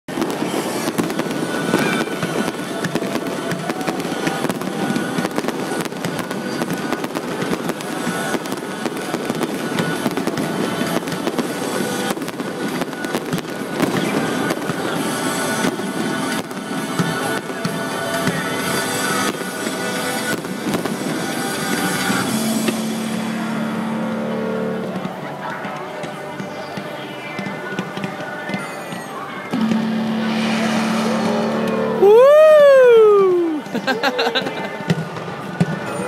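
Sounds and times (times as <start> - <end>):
music playing: 0.1 - 34.8
fireworks bursting and crackling: 0.1 - 36.0.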